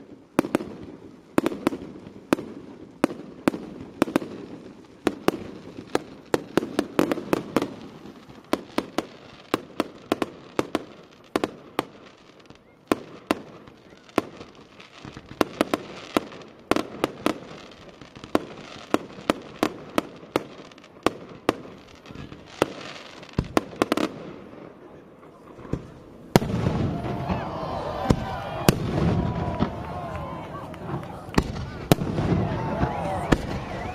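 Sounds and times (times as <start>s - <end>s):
fireworks bangs and cracks: 0.0s - 33.9s
fireworks crackling: 0.0s - 33.9s.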